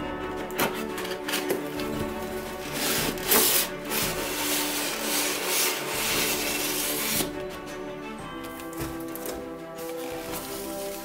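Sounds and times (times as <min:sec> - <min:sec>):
foam tray scraping out of cardboard box: 0:00.6 - 0:07.4, 0:08.5 - 0:11.0.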